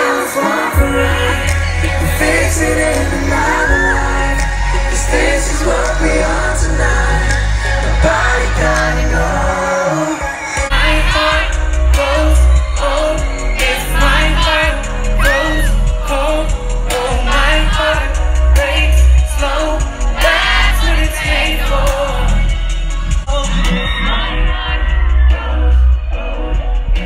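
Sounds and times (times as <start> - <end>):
loud backing track with booming bass: 0.0 - 27.0
male voices singing: 0.0 - 27.0.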